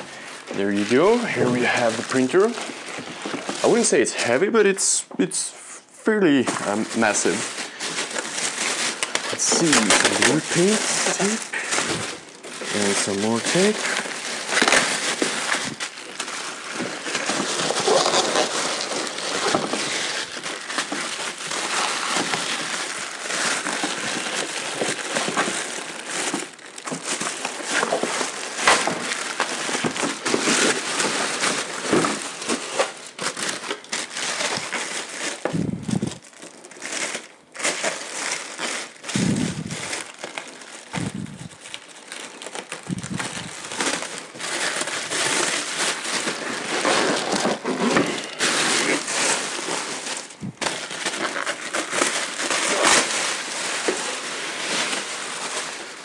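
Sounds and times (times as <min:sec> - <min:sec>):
plastic bag crinkling: 0:00.0 - 0:04.8, 0:06.2 - 0:56.0.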